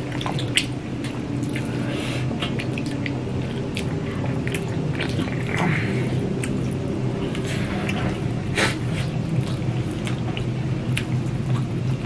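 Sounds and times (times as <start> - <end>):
steady low hum: 0.0 - 12.0
wet chewing and lip-smacking: 0.0 - 12.0.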